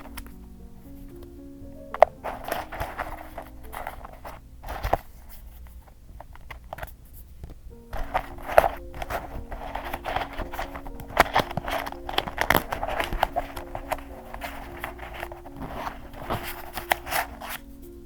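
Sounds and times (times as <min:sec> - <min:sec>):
paper rustling and crinkling: 0:00.0 - 0:01.3, 0:01.9 - 0:18.0
soft background music: 0:00.0 - 0:18.0.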